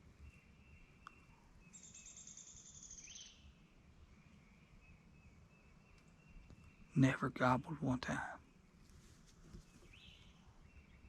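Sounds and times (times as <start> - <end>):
faint distant birdsong: 0.0 - 11.0.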